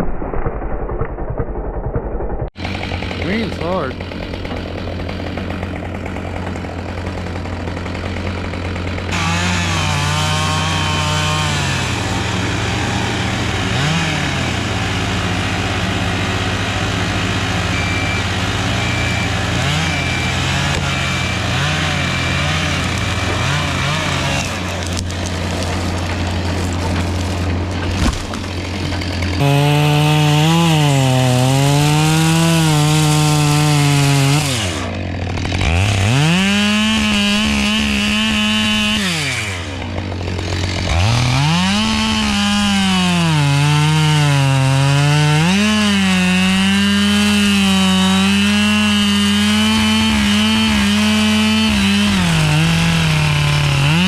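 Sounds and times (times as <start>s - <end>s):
chainsaw cutting wood: 2.6s - 54.0s.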